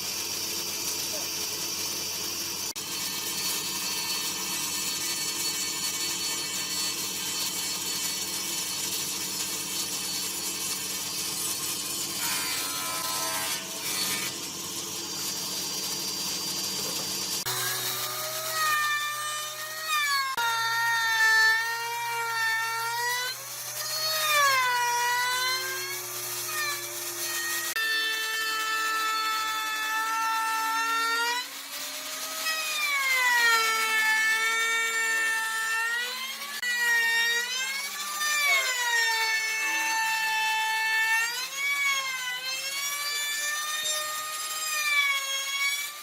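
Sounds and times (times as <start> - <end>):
power tool cutting wood: 0.0 - 46.0.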